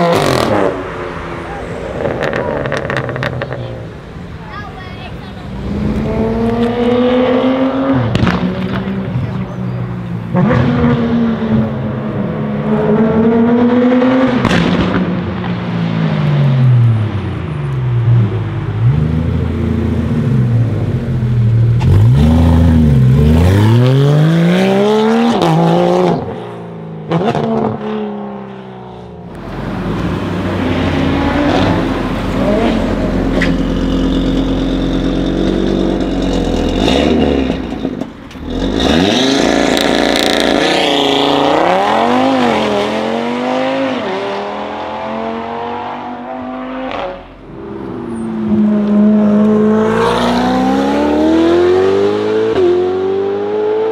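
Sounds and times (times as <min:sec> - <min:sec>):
car revving and accelerating away: 0:00.0 - 0:04.0, 0:05.4 - 0:53.9
sports car accelerating hard: 0:05.5 - 0:17.4, 0:18.0 - 0:28.5, 0:29.3 - 0:53.9.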